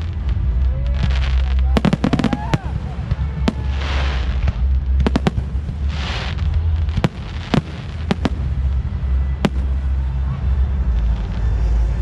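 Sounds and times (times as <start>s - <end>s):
fireworks bangs: 0.0s - 12.0s
fireworks crackling hiss: 0.0s - 12.0s
low rumble: 0.0s - 12.0s.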